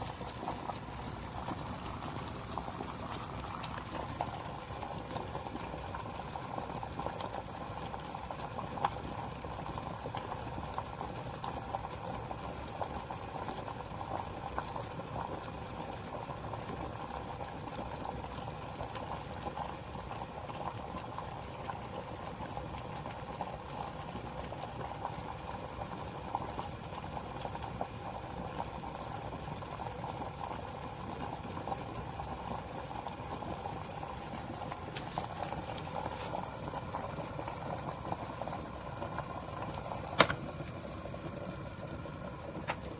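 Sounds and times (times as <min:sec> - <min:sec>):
electric kettle boiling water: 0:00.0 - 0:42.9.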